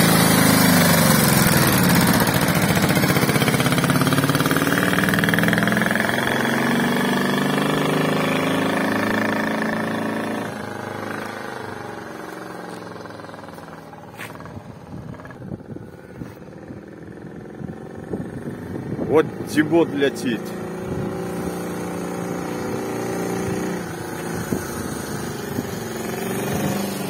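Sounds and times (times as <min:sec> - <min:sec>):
motorcycle engine pulling away: 0:00.0 - 0:27.0.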